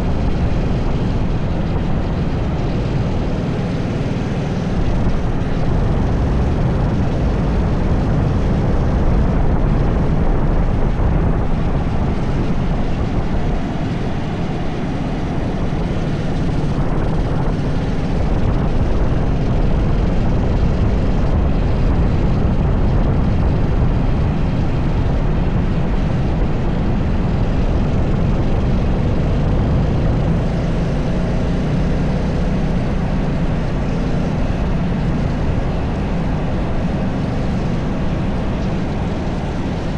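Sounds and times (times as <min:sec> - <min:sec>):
kart engine running at speed: 0:00.0 - 0:39.9.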